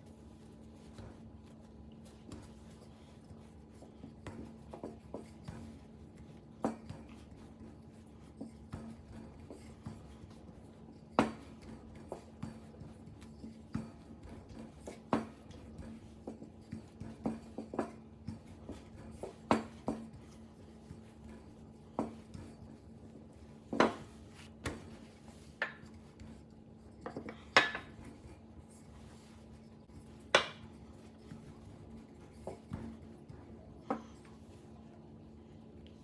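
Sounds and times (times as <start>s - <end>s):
hands rubbing dough: 0.0s - 36.0s.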